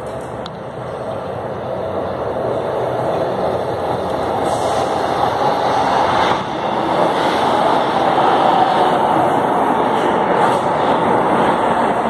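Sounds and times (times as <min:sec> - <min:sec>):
metro train rumbling on rails: 0:00.0 - 0:12.0.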